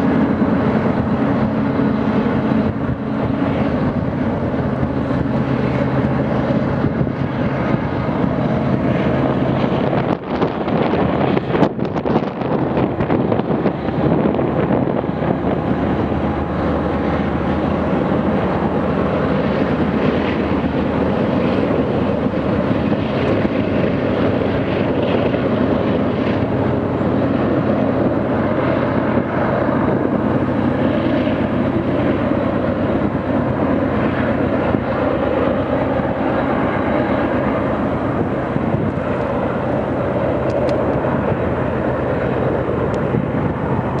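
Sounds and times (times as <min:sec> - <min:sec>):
diesel locomotive engines droning: 0:00.0 - 0:44.0
freight cars rumbling on rails: 0:00.0 - 0:44.0.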